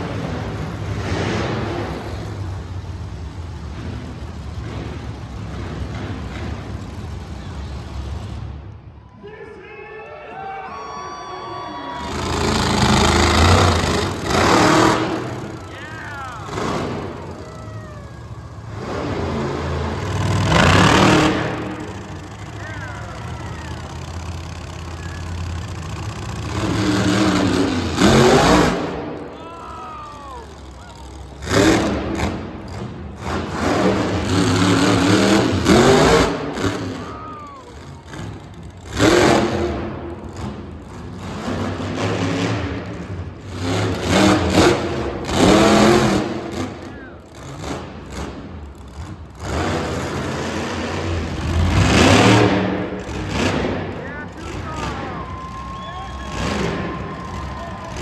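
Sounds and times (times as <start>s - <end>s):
monster truck engine revving: 0.0s - 9.0s, 10.8s - 58.0s.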